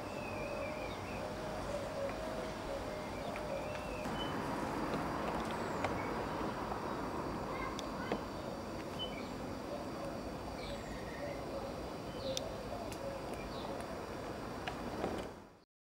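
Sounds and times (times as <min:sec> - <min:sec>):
small birds chirping: 0:00.0 - 0:14.2
low rumble and hiss: 0:00.0 - 0:15.6.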